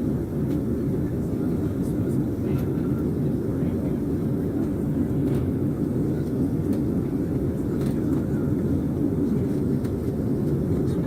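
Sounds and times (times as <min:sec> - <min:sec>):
airplane engines roaring in cabin: 0:00.0 - 0:11.0.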